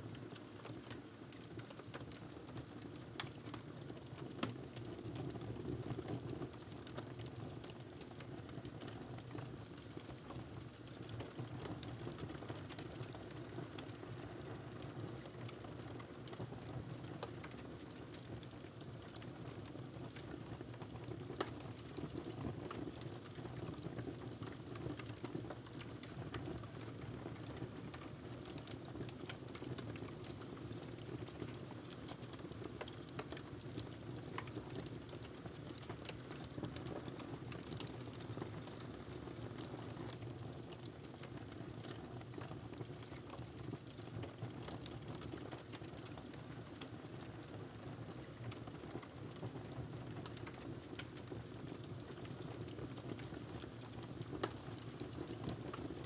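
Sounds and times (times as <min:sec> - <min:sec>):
wood fire crackling: 0:06.8 - 0:56.0.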